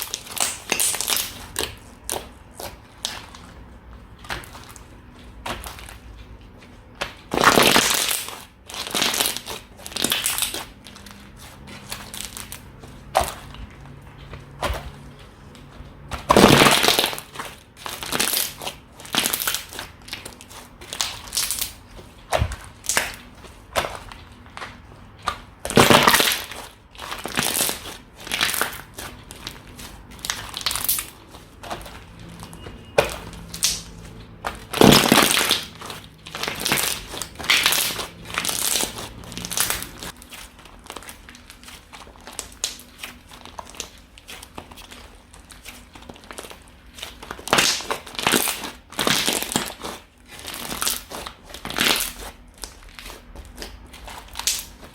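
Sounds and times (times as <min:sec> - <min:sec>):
slime squishing and crackling: 0:00.0 - 0:54.9.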